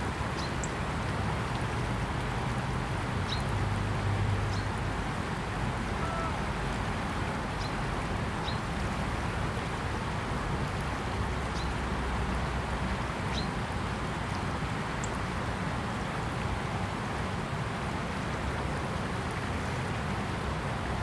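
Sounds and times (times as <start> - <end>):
river current rushing and rippling: 0.0 - 21.0.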